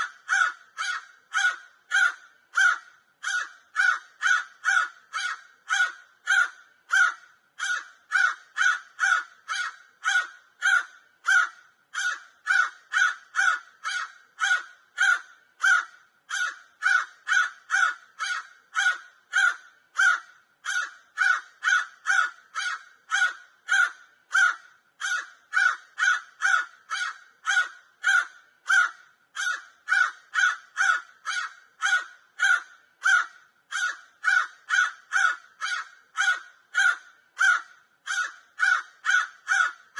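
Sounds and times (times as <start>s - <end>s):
crow cawing: 0.0s - 39.9s.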